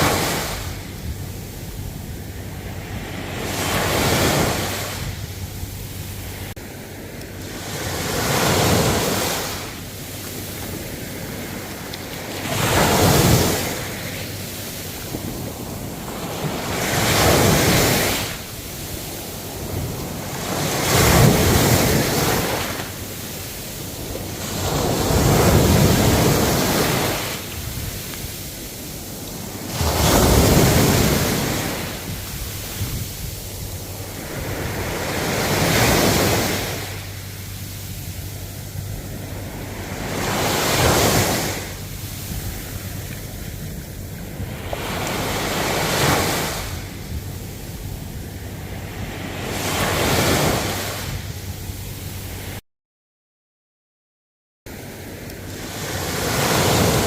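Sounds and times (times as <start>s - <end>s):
ocean waves breaking: 0.0s - 52.6s, 54.7s - 57.0s.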